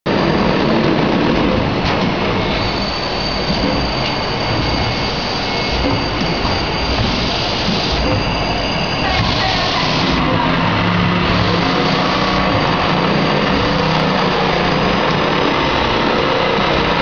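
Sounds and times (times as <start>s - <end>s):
printing machine rumble and hiss: 0.1s - 17.0s
thin high whine: 2.2s - 17.0s.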